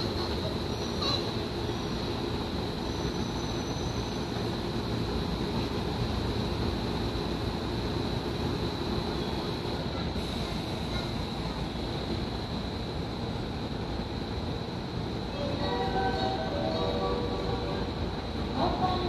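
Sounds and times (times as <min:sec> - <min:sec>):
train hum and hiss: 0:00.0 - 0:19.0.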